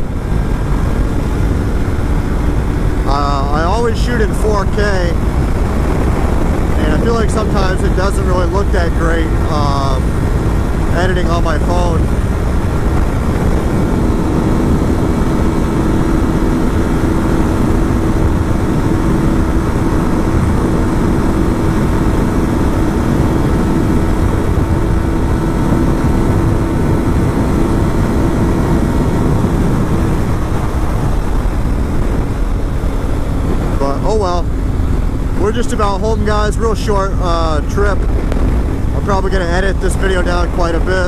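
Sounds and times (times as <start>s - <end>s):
motorcycle engine cruising: 0.0s - 41.0s
wind rush: 0.0s - 41.0s.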